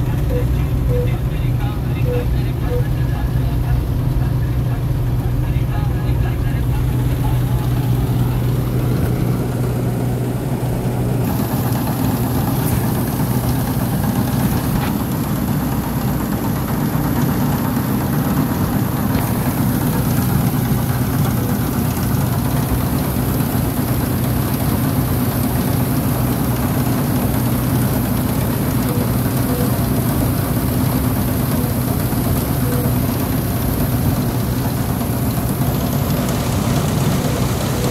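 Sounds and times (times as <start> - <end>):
combine harvester engine drone: 0.0 - 37.9.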